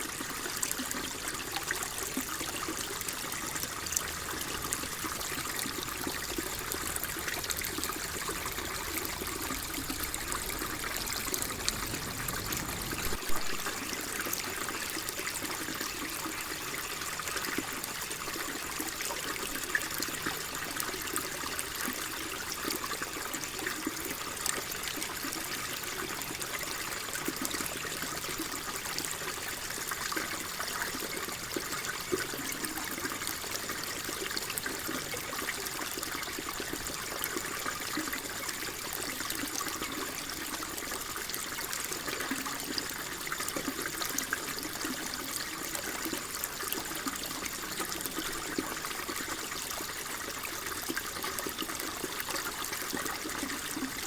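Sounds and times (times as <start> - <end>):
water trickling with small splashes: 0.0 - 54.0.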